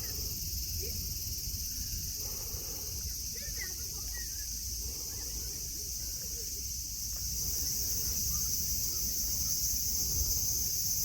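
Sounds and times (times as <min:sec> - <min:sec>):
cicadas singing: 0:00.0 - 0:11.0.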